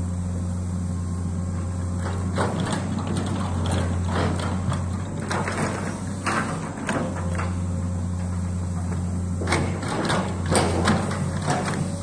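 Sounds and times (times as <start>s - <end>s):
diesel engine running: 0.0s - 12.0s
metallic clanks and creaks: 2.0s - 12.0s.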